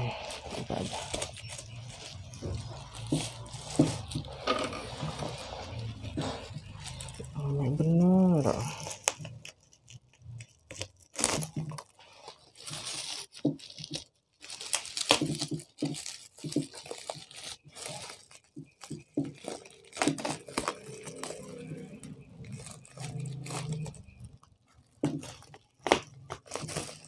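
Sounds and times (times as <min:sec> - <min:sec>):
bubble wrap crinkling and ripping: 0:00.0 - 0:27.0
scissors cutting bubble wrap: 0:00.0 - 0:27.0.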